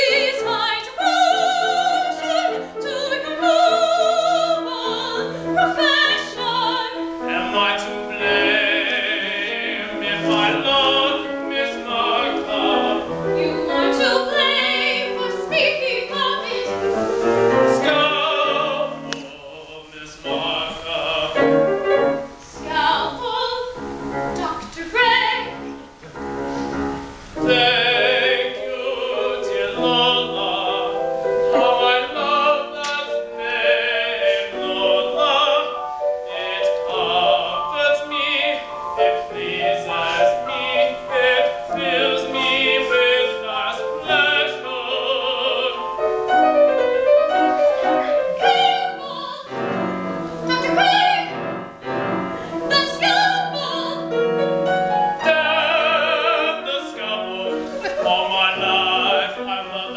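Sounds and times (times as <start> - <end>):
operatic singing with vibrato: 0.0 - 26.0, 27.0 - 59.9
piano accompaniment: 0.0 - 59.9.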